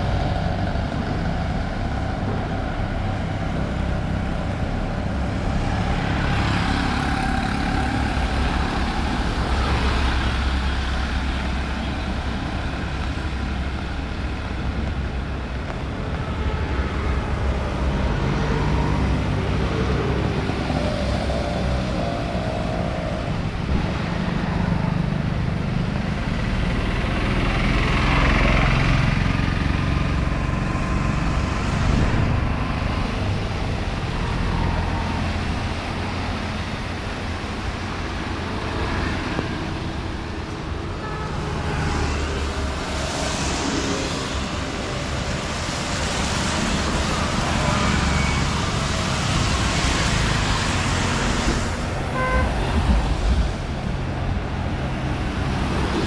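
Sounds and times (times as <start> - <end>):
traffic on wet street: 0.0 - 56.0
vehicles passing close: 0.0 - 56.0.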